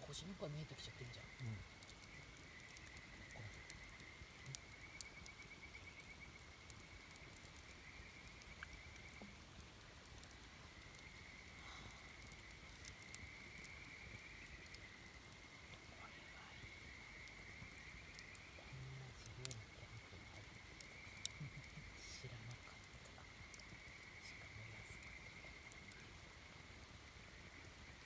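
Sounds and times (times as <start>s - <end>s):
faint campfire crackling: 0.0s - 28.0s.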